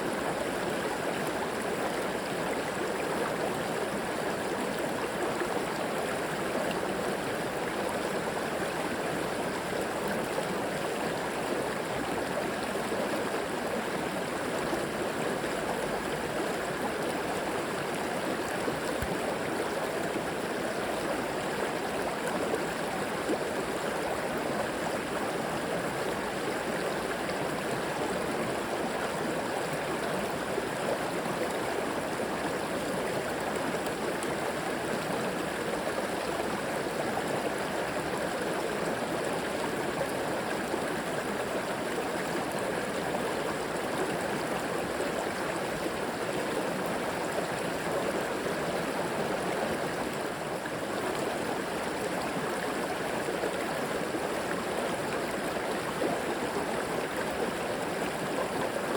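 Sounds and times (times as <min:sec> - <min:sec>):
river water flowing over rocks: 0:00.0 - 0:58.9.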